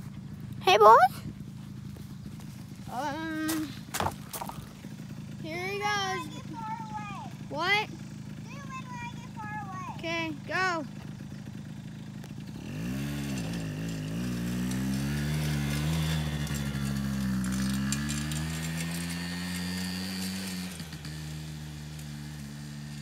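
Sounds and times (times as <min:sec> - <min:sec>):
small quad engine revving: 0:00.0 - 0:23.0.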